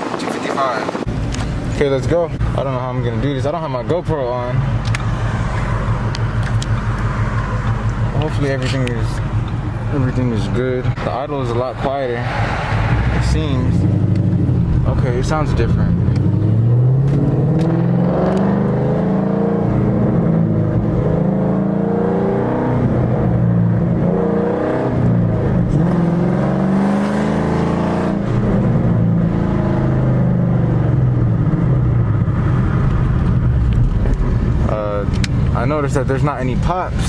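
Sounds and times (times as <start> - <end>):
car engine accelerating: 0.9 - 37.0.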